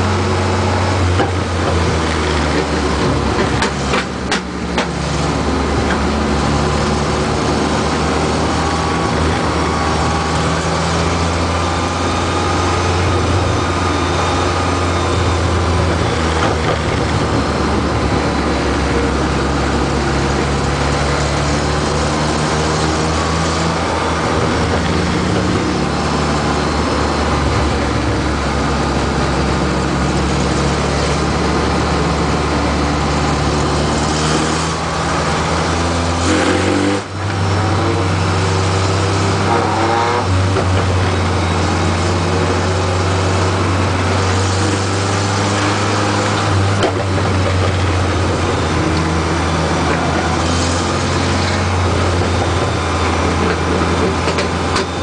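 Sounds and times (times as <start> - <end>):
truck engine running hard: 0.0 - 55.0.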